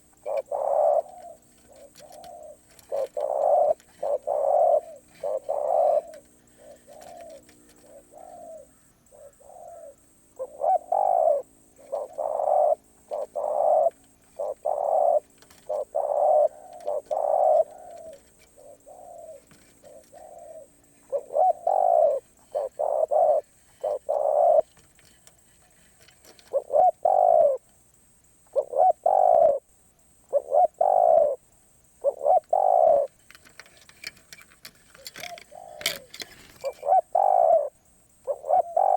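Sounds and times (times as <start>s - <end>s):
dove cooing: 0.0s - 27.7s, 28.4s - 38.9s.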